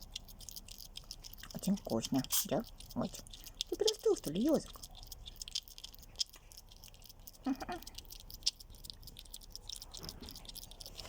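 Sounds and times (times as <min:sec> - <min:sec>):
hedgehog crunching dry food: 0:00.0 - 0:11.0.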